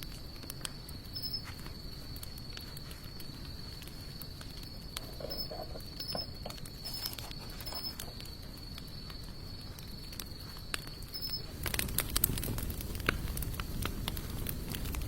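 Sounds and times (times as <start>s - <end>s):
low outdoor hum: 0.0s - 15.0s
wood fire crackling: 0.0s - 15.0s.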